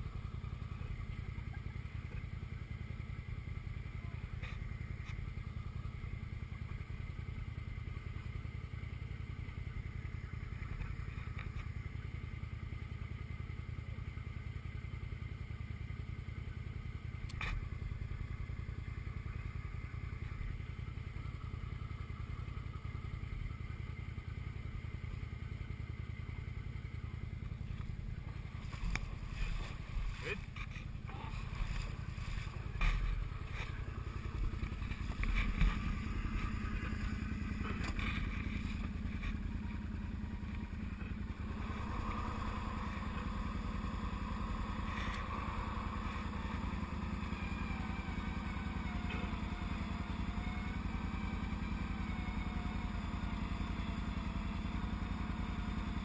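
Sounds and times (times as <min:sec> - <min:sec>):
atv engine idling: 0:00.0 - 0:56.0.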